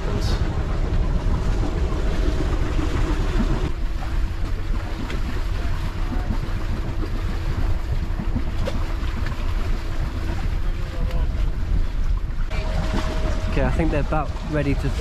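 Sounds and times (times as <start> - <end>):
low engine hum: 0.0 - 15.0
water rushing along hull: 0.0 - 15.0
wind buffeting microphone: 0.0 - 15.0.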